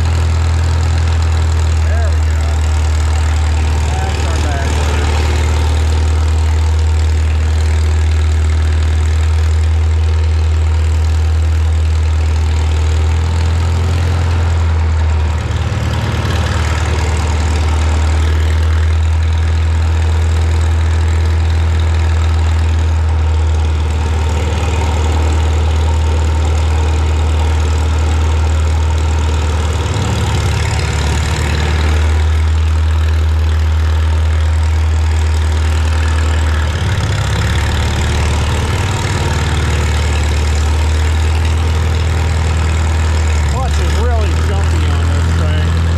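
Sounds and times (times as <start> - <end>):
gasoline engine idling: 0.0 - 45.9.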